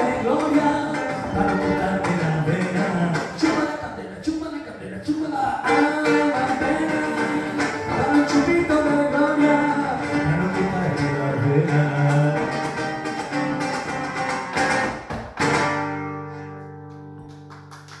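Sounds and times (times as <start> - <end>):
acoustic guitar strumming: 0.0 - 3.9, 5.6 - 17.3.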